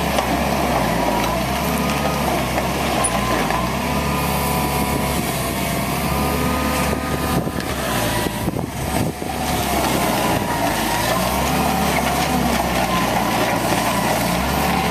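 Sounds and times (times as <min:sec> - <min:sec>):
excavator diesel engine droning: 0:00.0 - 0:14.9.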